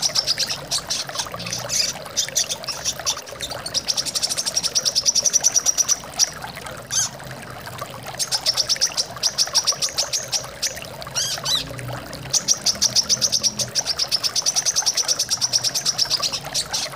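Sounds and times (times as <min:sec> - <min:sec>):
running water: 0:00.0 - 0:16.9.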